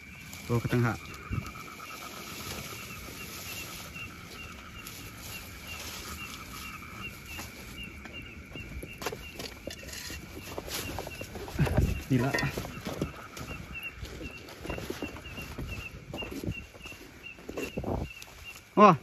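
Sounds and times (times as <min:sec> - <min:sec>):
insect chirping: 0:00.0 - 0:19.0
insects droning: 0:00.0 - 0:19.0.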